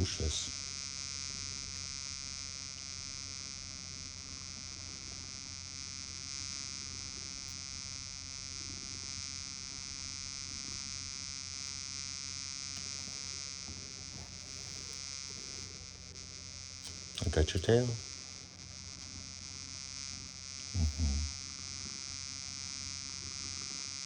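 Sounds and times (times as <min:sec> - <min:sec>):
electrical buzz with hiss: 0:00.0 - 0:24.0.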